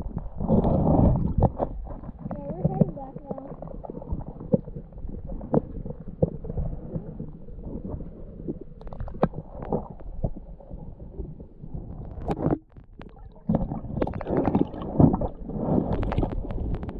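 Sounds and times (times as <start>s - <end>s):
underwater clicks and knocks: 0.0s - 6.7s, 8.8s - 10.9s, 11.8s - 16.9s
underwater rumbling water: 0.0s - 16.9s.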